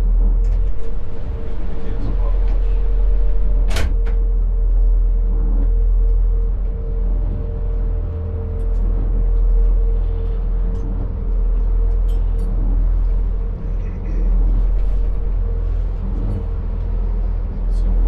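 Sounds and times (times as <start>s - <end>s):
boat engines running: 0.0s - 18.0s.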